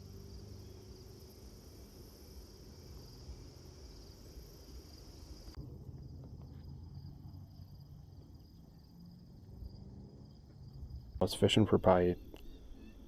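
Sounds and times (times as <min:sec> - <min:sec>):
insect chorus trilling: 0:00.0 - 0:05.6, 0:06.4 - 0:13.0.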